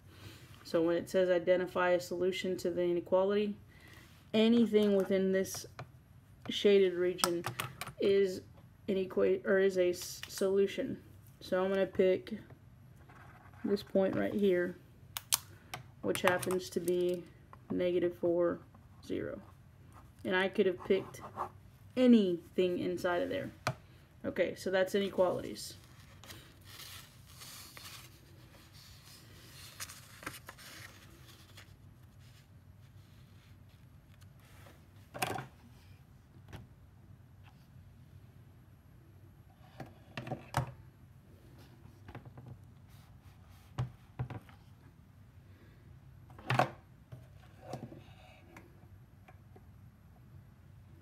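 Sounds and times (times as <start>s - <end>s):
faint room hum: 0.0s - 51.0s.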